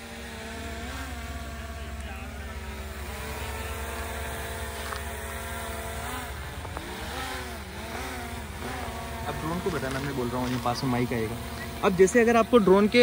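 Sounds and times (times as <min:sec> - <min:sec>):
drone propeller whine: 0:00.0 - 0:13.0.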